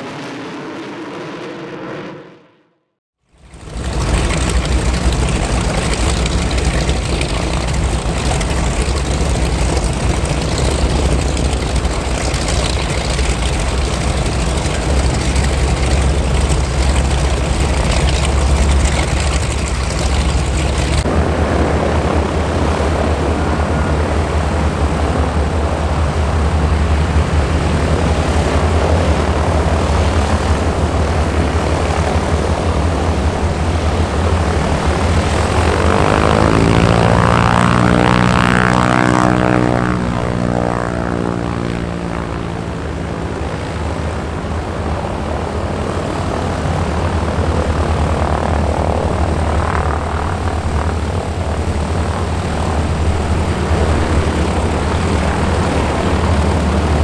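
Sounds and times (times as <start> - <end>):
propeller plane engines rumbling: 0.0 - 2.4, 3.2 - 57.0.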